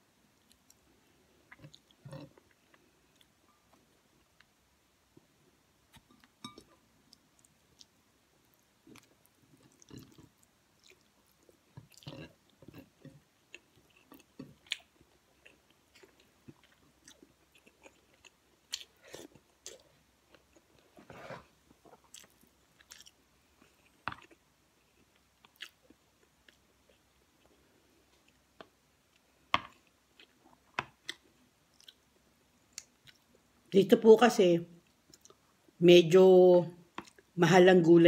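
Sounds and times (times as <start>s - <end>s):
person chewing with wet smacks: 0.4s - 4.6s, 5.9s - 20.9s, 21.8s - 32.1s, 32.7s - 33.4s, 34.8s - 35.5s, 36.9s - 37.4s.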